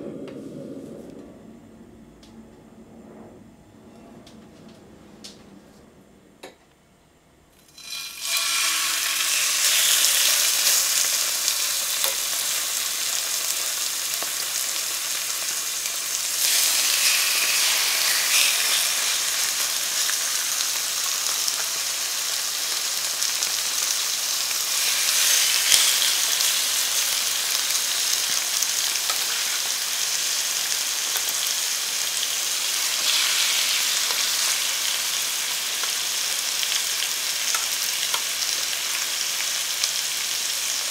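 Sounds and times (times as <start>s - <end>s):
chicken sizzling in oil: 7.6s - 40.9s.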